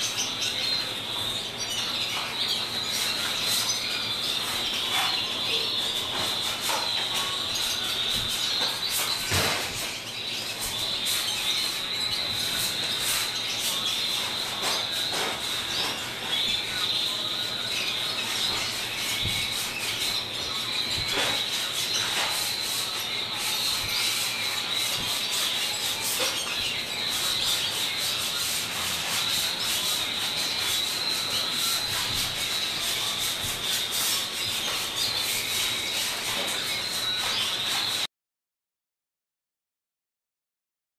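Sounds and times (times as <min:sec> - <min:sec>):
canaries twittering and singing: 0:00.0 - 0:38.1.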